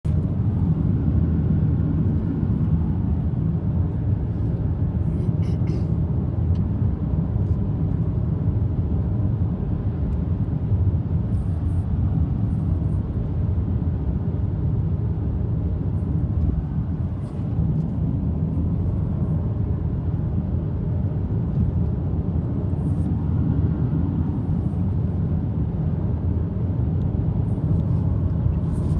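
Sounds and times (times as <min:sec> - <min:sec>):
engine and road noise rumble: 0:00.0 - 0:28.9.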